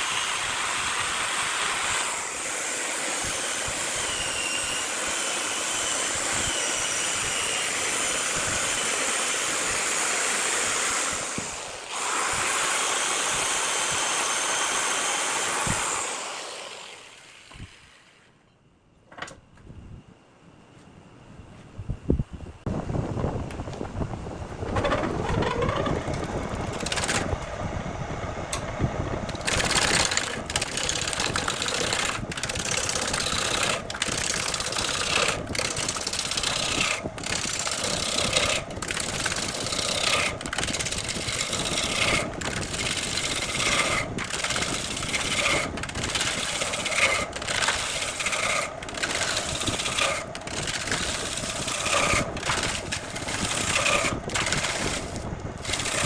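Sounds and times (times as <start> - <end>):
power tool cutting wood: 0.0 - 18.3, 24.7 - 27.4, 29.3 - 56.0.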